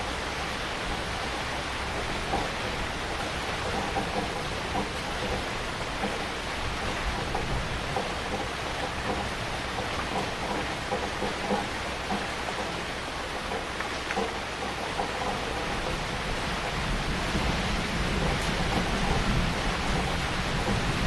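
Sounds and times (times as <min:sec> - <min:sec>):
heavy rain falling: 0:00.0 - 0:21.0
raindrops spattering on surfaces: 0:00.0 - 0:21.0.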